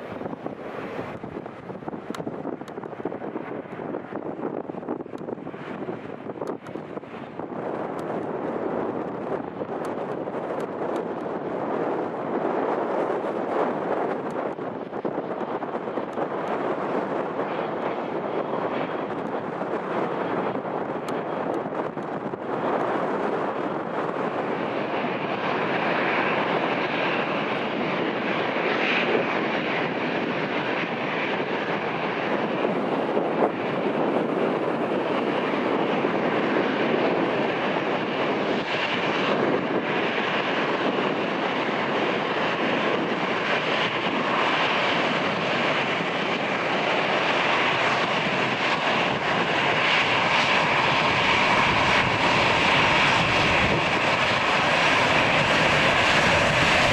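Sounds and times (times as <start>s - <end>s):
jet engines rushing: 0.0s - 56.9s.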